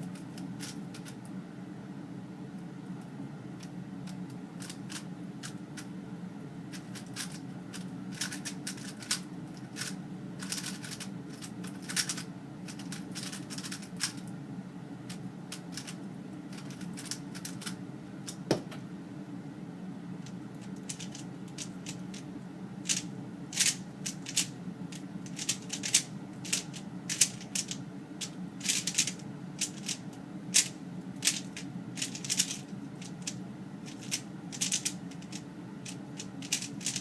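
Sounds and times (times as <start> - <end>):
speedcube clicking and rattling: 0.2 - 1.2, 3.6 - 5.9, 6.7 - 14.3, 15.1 - 18.4, 20.2 - 22.2, 22.8 - 37.0.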